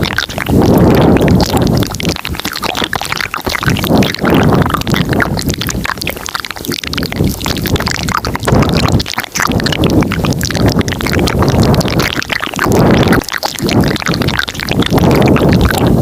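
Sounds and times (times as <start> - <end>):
wet mouth clicks and smacks: 0.0 - 16.0.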